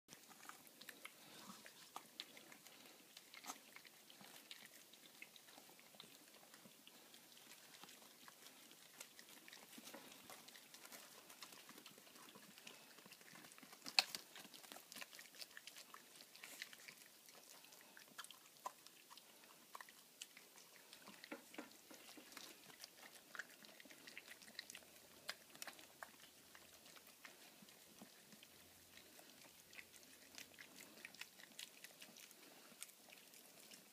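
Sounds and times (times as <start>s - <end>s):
dogs chewing: 0.1s - 33.9s.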